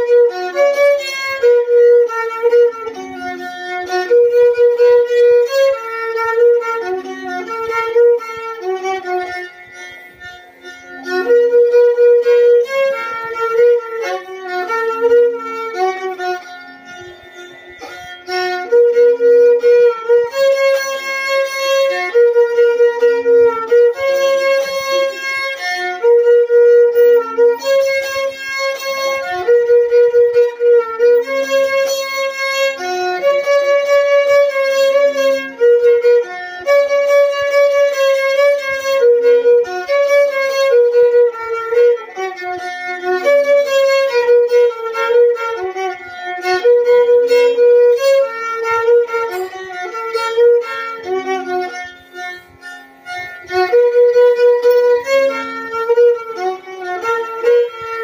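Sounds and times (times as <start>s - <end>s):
solo violin melody: 0.0s - 58.0s.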